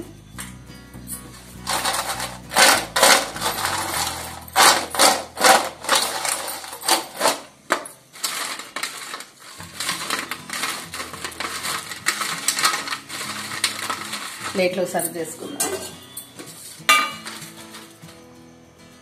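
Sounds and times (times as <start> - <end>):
hand scraping and rustling food: 1.1 - 18.0
food rattling on metal plate: 1.6 - 18.2.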